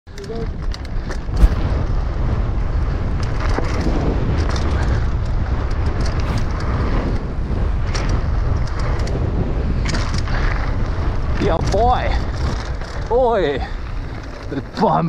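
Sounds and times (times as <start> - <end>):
bike clicks and rattles: 0.1 - 15.0
tyres on dirt: 0.1 - 15.0
wind buffeting microphone: 0.1 - 15.0.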